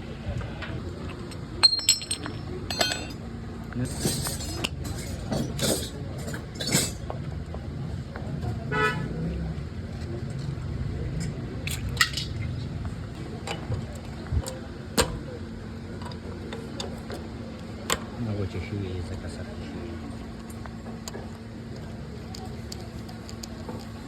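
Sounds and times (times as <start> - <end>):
traffic engines rumbling: 0.0 - 24.0.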